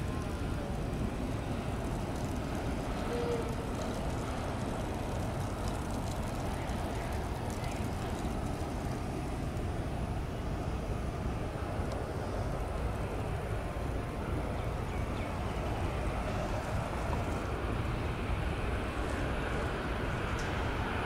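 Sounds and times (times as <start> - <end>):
distant jet airliner rumble: 0.0 - 21.0.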